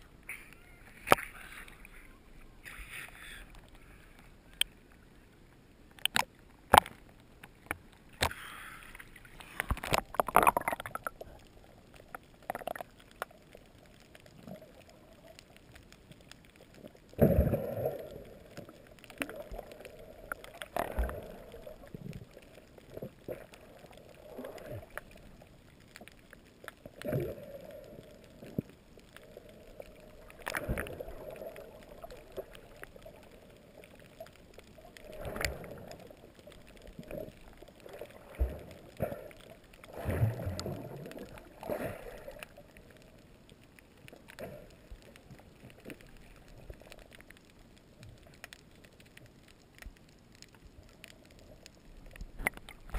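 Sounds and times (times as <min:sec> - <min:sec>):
muffled underwater water swishing: 0:00.0 - 0:52.9.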